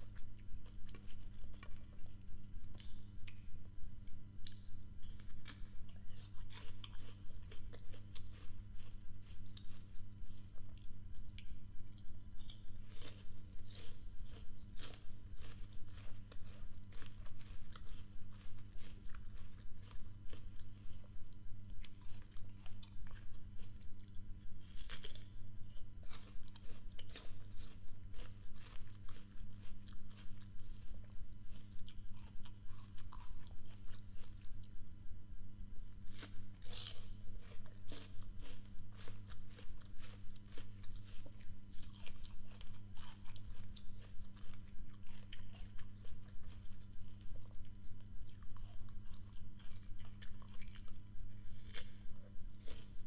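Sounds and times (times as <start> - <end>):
chewing crisp apple: 0.0 - 53.0
low hum: 0.0 - 53.0.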